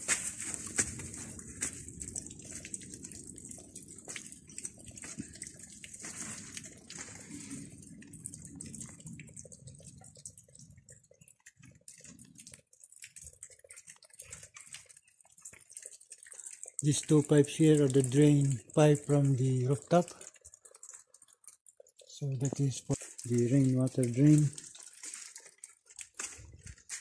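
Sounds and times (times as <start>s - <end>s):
water drops ticking: 0.0s - 27.0s.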